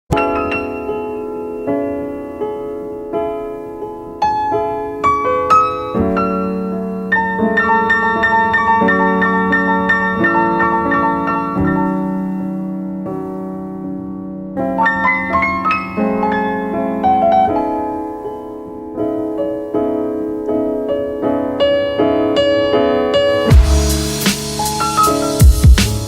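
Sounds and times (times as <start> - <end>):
piano music: 0.1 - 26.0.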